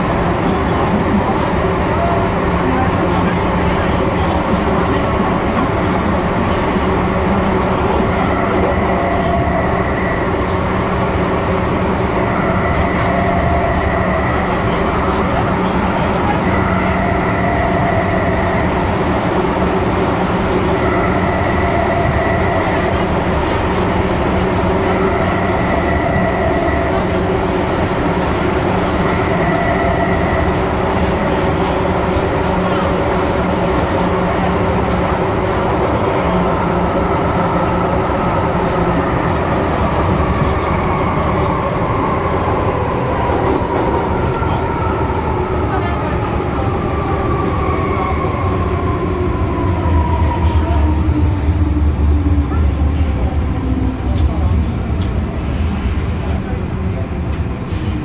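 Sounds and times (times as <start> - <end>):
higher train tone: 0.0 - 54.2
metro train rolling rumble: 0.0 - 58.0.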